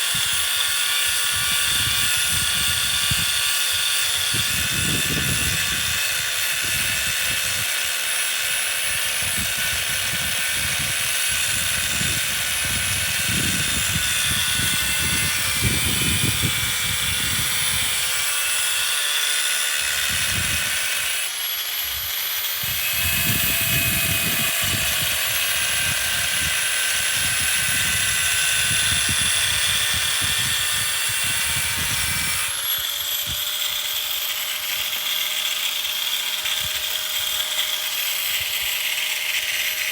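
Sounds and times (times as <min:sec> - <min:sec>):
metalworking tool high whine: 0:00.0 - 0:39.9.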